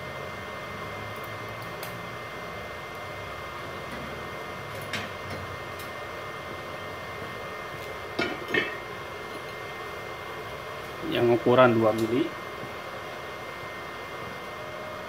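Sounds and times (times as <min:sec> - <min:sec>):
cooling fan whirring: 0:00.0 - 0:15.0.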